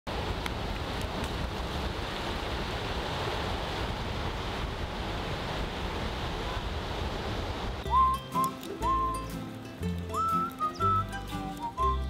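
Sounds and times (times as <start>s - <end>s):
small waves washing onto sand: 0.1s - 11.8s
wind rumbling on microphone: 0.1s - 12.0s.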